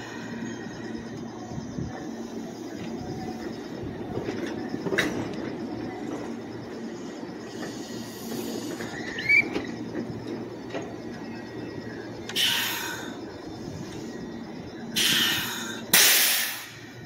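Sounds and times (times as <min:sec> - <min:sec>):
electric train running noise: 0:00.0 - 0:17.0.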